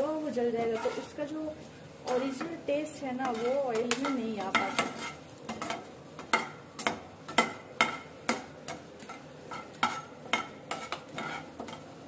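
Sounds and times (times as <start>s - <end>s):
faint oil sizzle: 0.0s - 12.0s
spoon scraping metal pan: 0.6s - 1.2s, 2.1s - 12.0s.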